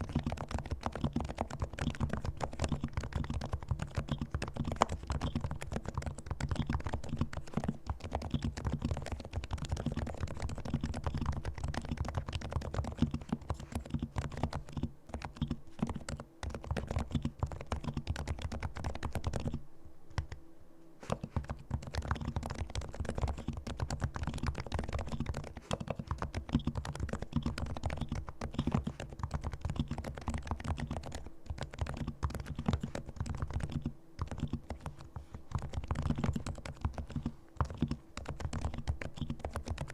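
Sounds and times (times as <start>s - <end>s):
fast keyboard typing: 0.0s - 19.6s, 20.2s - 20.4s, 21.0s - 39.9s.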